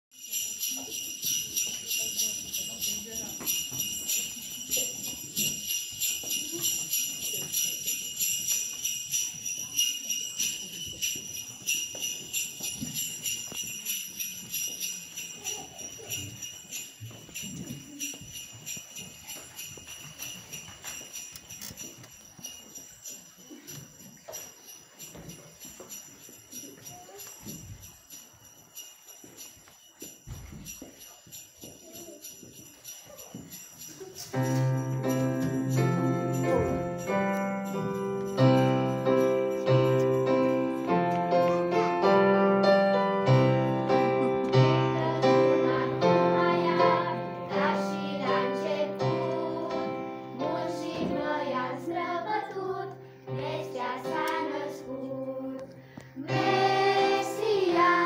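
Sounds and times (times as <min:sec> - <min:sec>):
jingle bells shaken: 0:00.1 - 0:58.0.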